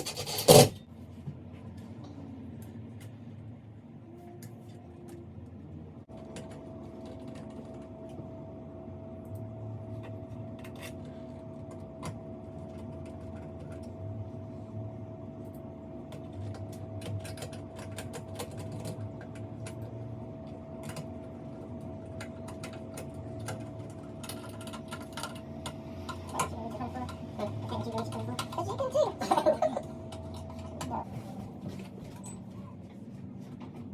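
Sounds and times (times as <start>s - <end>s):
mechanical hum with held tone: 0.0s - 33.9s.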